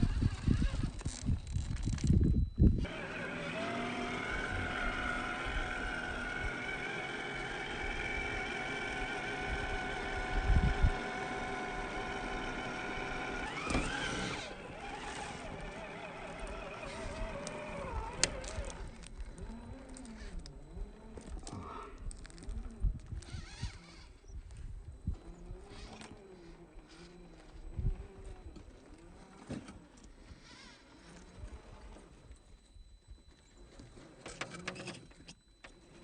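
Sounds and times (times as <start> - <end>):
electric motor whining: 0.0 - 36.0.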